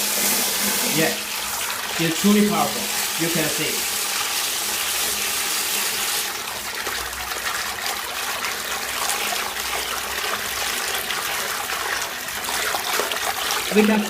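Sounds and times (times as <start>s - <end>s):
water gushing from pump outlet: 0.0s - 14.0s.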